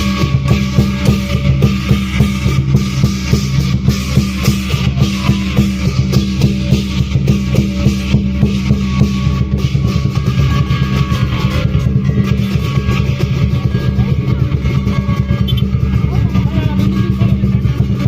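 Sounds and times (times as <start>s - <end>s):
cymbals: 0.0s - 18.0s
drums beating: 0.0s - 18.0s
gong: 0.0s - 18.0s.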